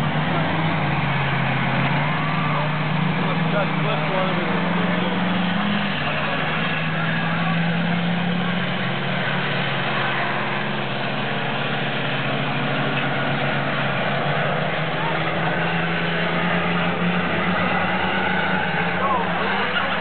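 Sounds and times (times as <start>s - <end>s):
people's voices: 0.0s - 20.0s
race car engines running: 0.0s - 20.0s.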